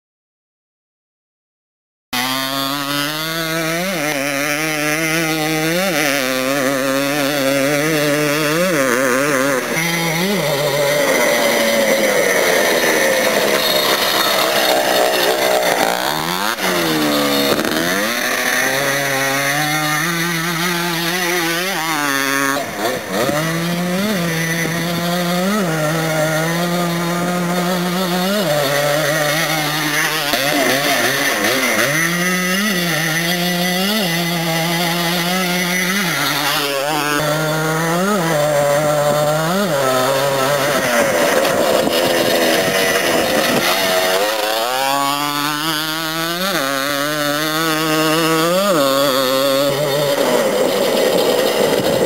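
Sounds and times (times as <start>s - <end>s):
two-stroke quad engine revving: 2.2s - 52.0s.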